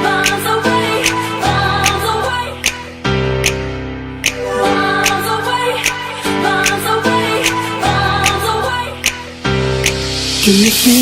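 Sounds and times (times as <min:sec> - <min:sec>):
pop song with light percussion: 0:00.0 - 0:11.0.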